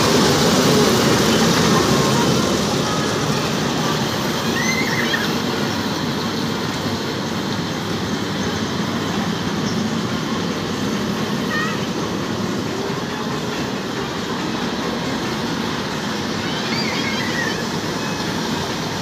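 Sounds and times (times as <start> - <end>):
small train rolling on steel track: 0.0 - 19.0.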